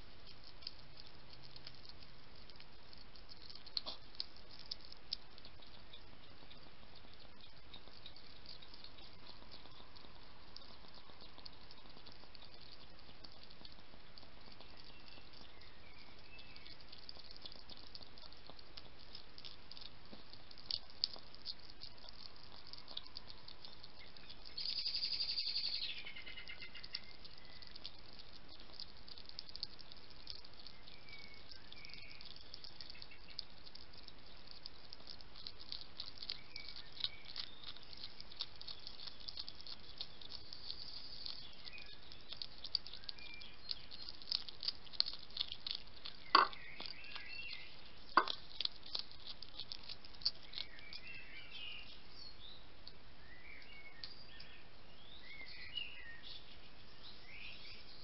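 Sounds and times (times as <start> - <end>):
hedgehog crunching dry food: 0.0 - 56.5.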